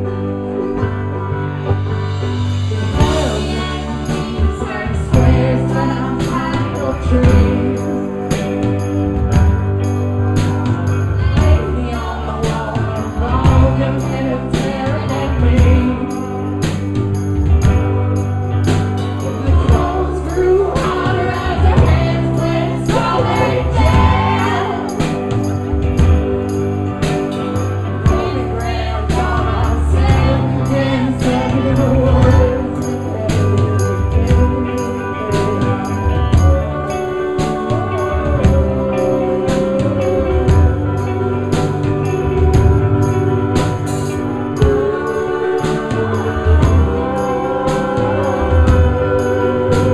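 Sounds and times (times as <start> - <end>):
amplified electric guitar: 0.0 - 49.9
steady drum beat: 2.1 - 49.9
woman and man singing together: 2.7 - 9.5, 10.3 - 17.1, 18.7 - 49.9.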